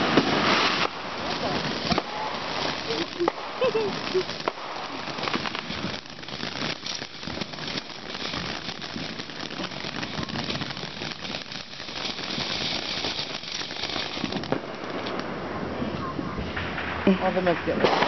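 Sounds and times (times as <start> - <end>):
firework hissing and crackling: 0.0 - 18.0.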